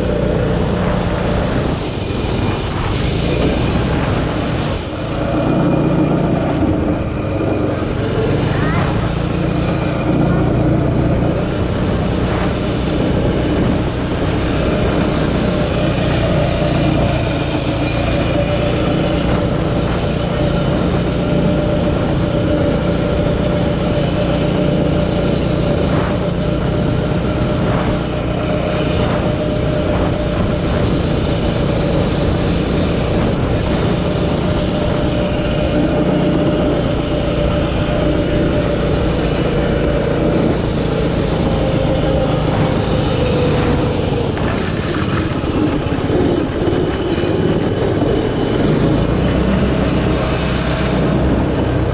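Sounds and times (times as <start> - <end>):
snowmobile engine drone: 0.0 - 51.9
track rumbling in snow: 0.0 - 51.9.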